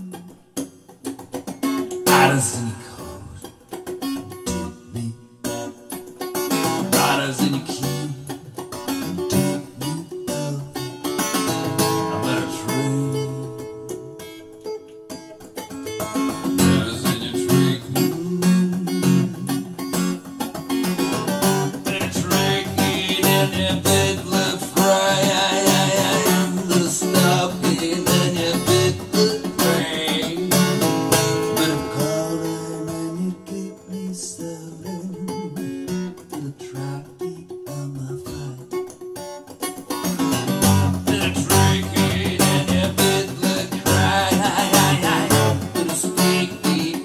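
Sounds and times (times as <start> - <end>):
acoustic guitar song: 0.0 - 47.0.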